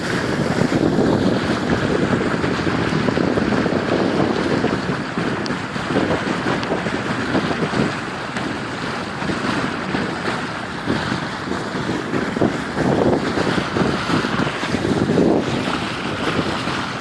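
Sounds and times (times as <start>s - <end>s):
water washing against boat hull: 0.0s - 17.0s
wind buffeting microphone: 0.0s - 17.0s.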